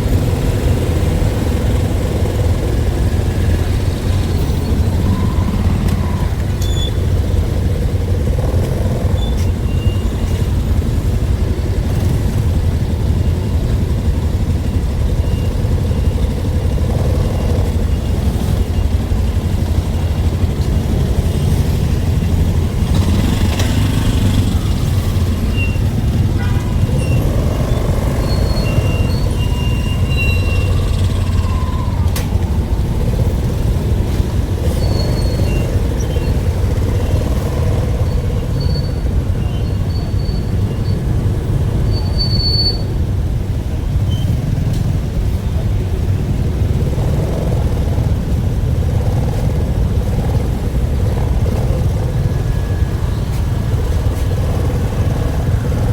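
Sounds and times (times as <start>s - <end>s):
vehicle rumbling: 0.0s - 55.9s.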